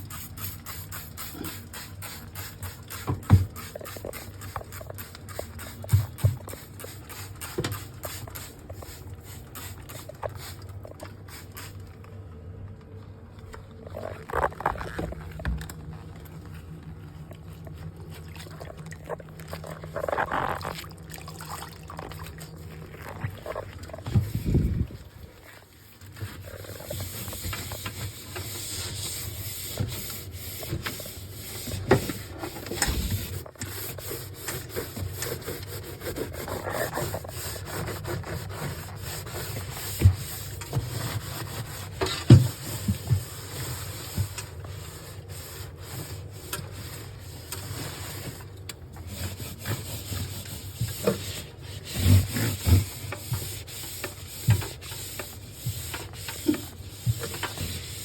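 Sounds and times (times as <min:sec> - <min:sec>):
scrubbing and wiping: 0:00.0 - 0:11.9, 0:13.7 - 0:58.0.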